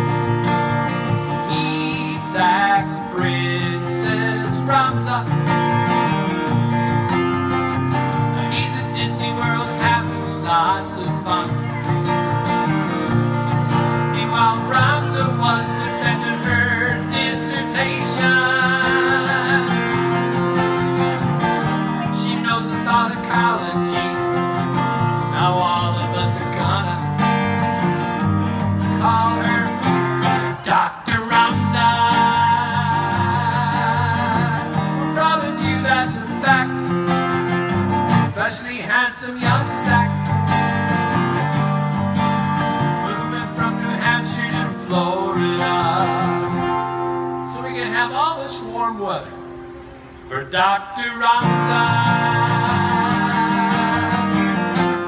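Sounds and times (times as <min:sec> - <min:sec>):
acoustic guitar strumming: 0:00.0 - 0:55.0
man singing: 0:01.2 - 0:06.0, 0:08.2 - 0:12.2, 0:13.7 - 0:27.9, 0:28.6 - 0:41.4, 0:42.6 - 0:49.4, 0:50.3 - 0:55.0.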